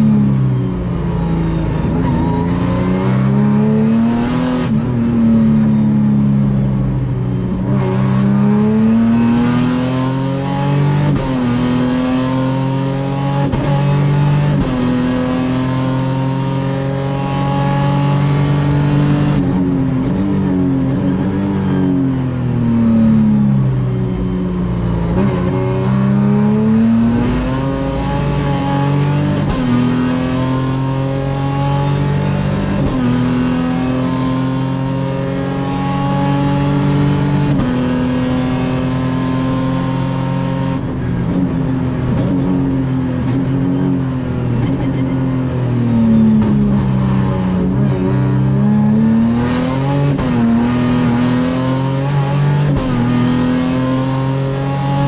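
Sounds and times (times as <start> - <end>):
race car engine accelerating: 7.5 - 23.8, 24.4 - 45.1, 45.7 - 55.0.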